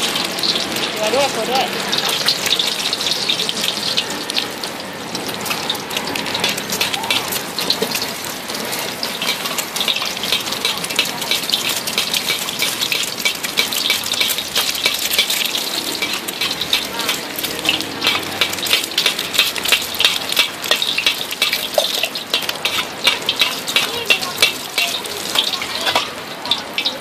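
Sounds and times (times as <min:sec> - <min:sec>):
egg sizzling in hot oil: 0:00.0 - 0:27.0.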